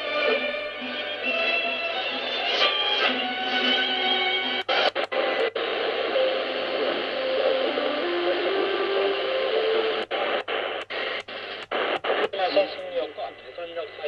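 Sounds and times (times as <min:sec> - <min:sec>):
radio static hiss: 0:00.0 - 0:00.8, 0:01.4 - 0:14.0
faint radio station tones: 0:00.0 - 0:14.0.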